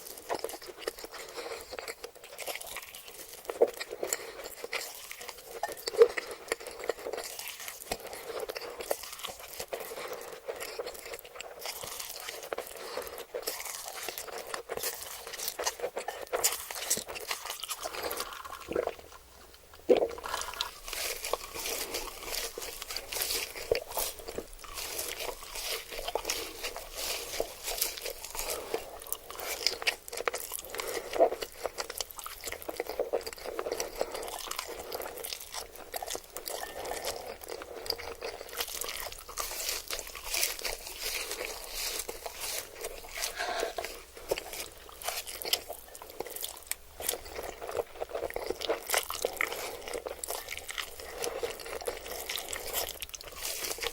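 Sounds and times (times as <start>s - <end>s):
crunchy food being chewed: 0.0s - 53.9s.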